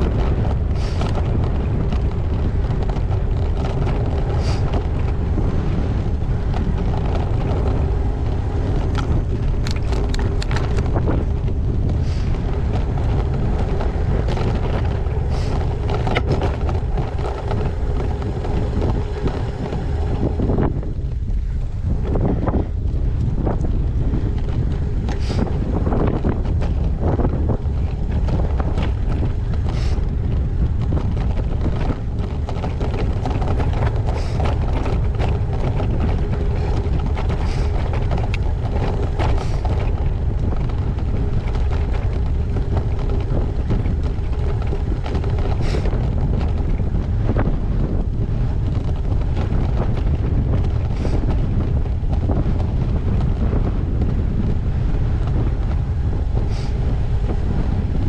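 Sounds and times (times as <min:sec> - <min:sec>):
sharp knocks and rattles: 0:00.0 - 0:21.3, 0:22.0 - 0:53.6
bike ride rumble: 0:00.0 - 0:58.0
wind buffeting microphone: 0:00.0 - 0:58.0.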